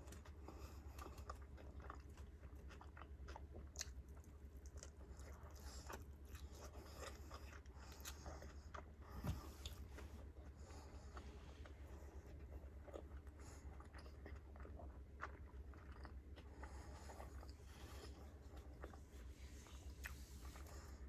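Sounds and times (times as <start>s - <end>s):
person chewing food: 0.0s - 21.0s
steady low hum: 0.0s - 21.0s.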